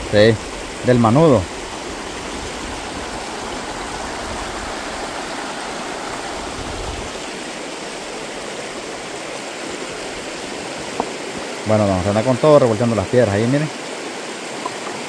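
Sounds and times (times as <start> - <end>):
river rapids rushing over stones: 0.0 - 15.0.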